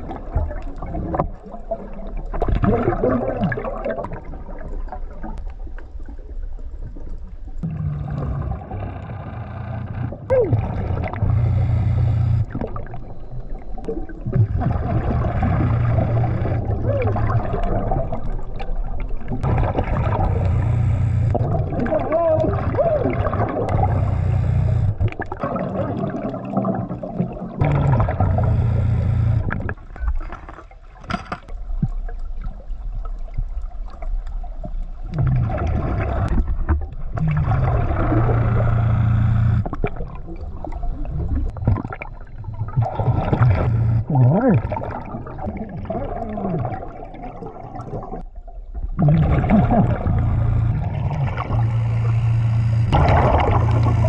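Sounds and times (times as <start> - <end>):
scuba diver bubbles gurgling: 0.0 - 6.2, 6.8 - 30.4, 31.7 - 54.0.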